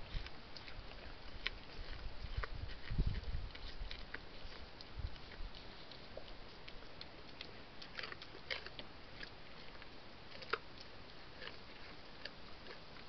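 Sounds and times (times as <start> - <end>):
deer chewing apples: 0.0 - 13.0.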